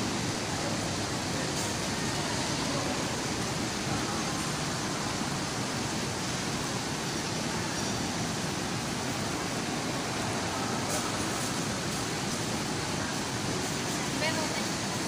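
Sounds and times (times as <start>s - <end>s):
shopping mall ambience: 0.0s - 15.0s.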